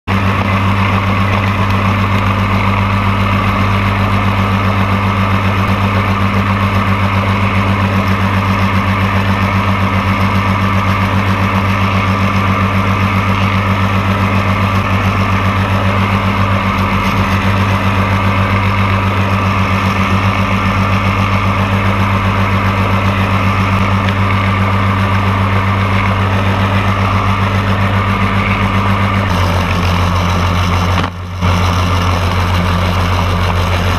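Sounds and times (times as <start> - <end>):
two-stroke aircraft engine running: 0.0 - 33.9.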